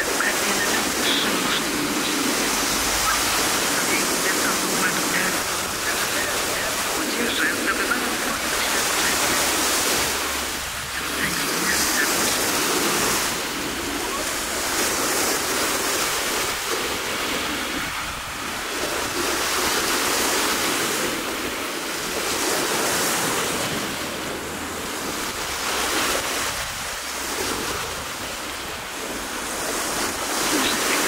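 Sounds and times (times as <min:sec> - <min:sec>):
sea surf: 0:00.0 - 0:31.0
wind: 0:00.0 - 0:31.0.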